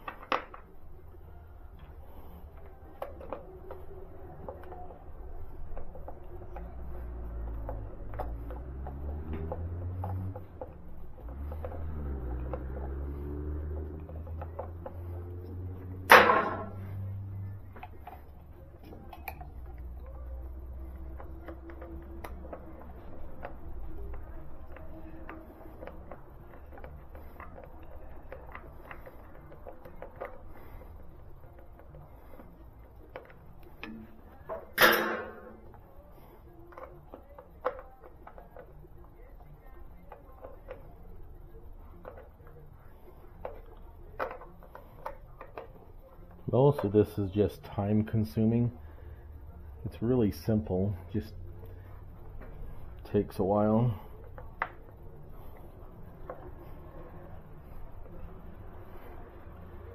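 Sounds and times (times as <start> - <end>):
hand tools clicking and tapping: 0.0 - 48.6
low steady hum: 0.0 - 59.9.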